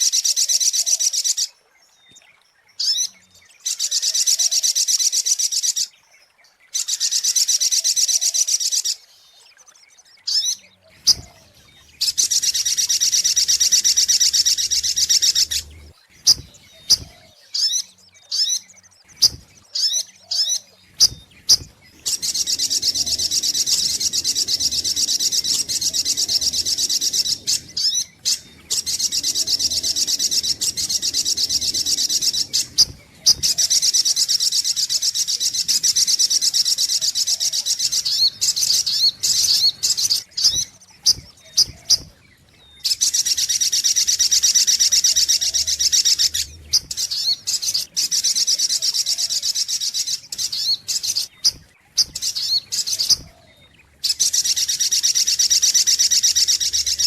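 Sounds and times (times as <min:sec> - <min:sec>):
bird song with fast trills: 0:00.0 - 0:57.0
sharp bird chirps: 0:06.7 - 0:57.0.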